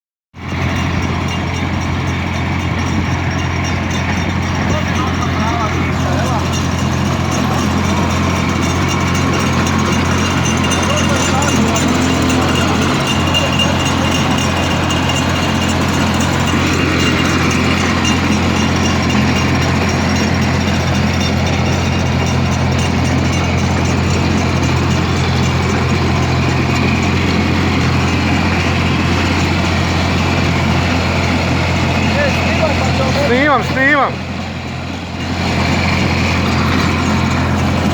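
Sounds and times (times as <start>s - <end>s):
rotary tiller engine running: 0.4s - 37.9s.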